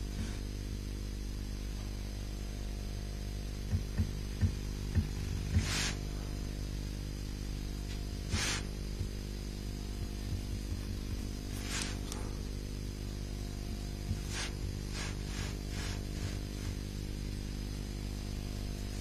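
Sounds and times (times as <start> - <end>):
electrical hum with hiss: 0.0 - 19.0.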